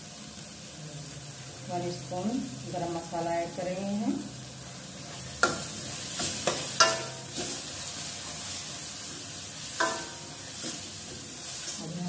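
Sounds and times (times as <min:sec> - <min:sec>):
paste sizzling in oil: 0:01.3 - 0:12.0.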